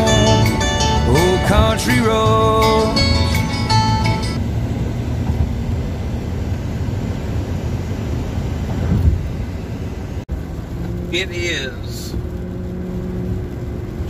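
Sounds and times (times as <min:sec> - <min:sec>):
road and wind noise: 0:00.0 - 0:14.0
truck rumble: 0:00.0 - 0:14.0.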